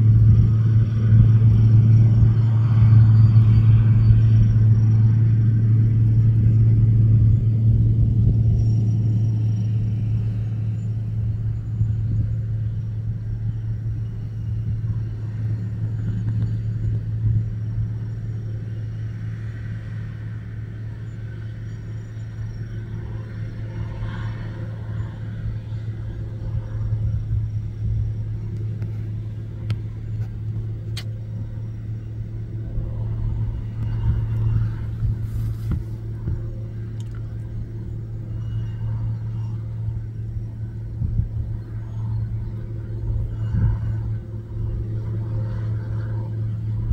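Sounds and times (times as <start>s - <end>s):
tractor diesel engine drone: 0.0s - 46.9s.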